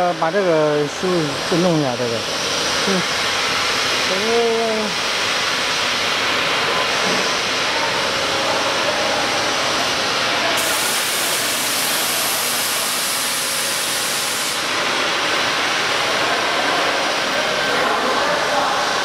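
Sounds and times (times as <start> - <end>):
machinery hissing rush: 0.0 - 19.0.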